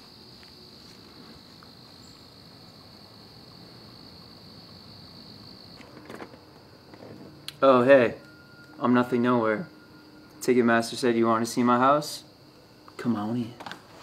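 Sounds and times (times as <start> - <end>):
insect trilling: 0.0 - 14.0.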